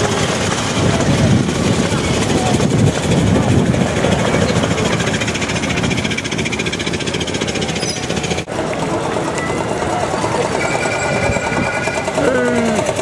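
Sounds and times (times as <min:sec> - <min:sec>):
old car engine chugging past: 0:00.0 - 0:13.0.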